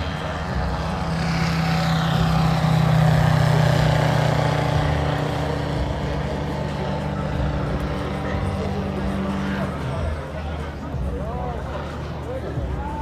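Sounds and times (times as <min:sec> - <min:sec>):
model airplane engine drone: 0:00.0 - 0:13.0.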